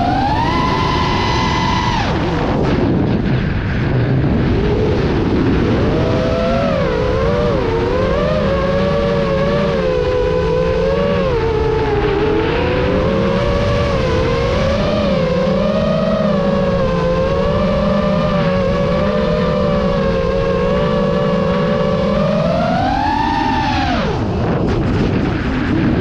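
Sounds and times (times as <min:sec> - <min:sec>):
quadcopter propellers whining: 0:00.0 - 0:26.0.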